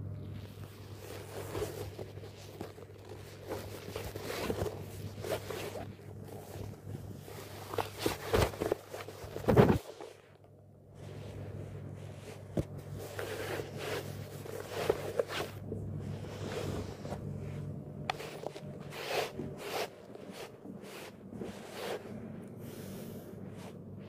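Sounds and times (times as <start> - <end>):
steady low hum: 0.0 - 24.0
rustling and scraping: 0.2 - 24.0.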